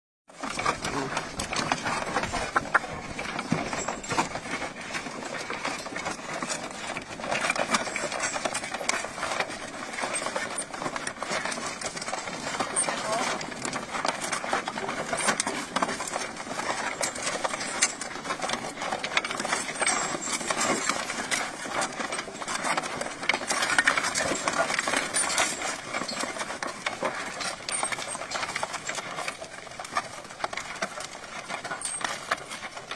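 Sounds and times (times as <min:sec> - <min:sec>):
potato planter rattling: 0:00.4 - 0:32.9.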